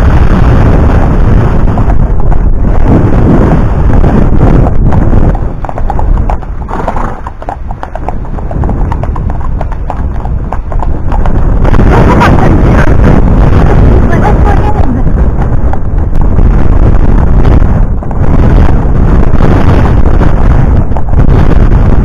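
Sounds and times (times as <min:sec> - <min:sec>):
horse hooves clip-clopping on tarmac: 0:00.0 - 0:22.0
wind buffeting microphone: 0:00.0 - 0:22.0.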